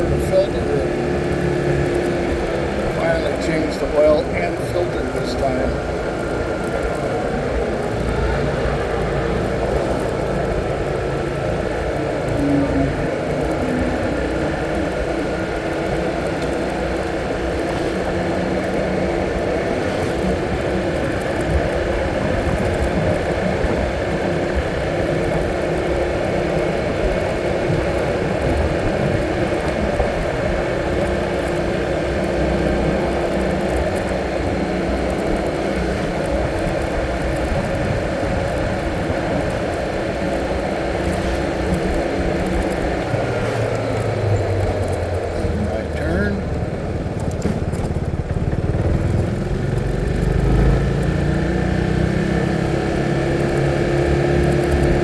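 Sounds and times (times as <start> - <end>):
car engine running while driving: 0.0 - 55.0
road and wind noise: 0.0 - 55.0.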